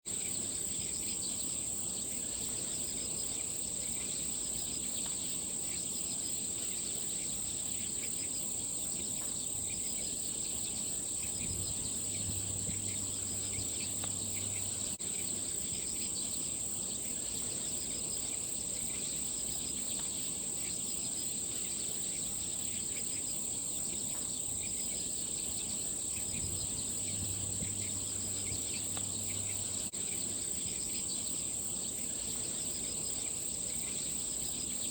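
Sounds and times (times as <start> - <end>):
insects chirring: 0.1 - 34.9.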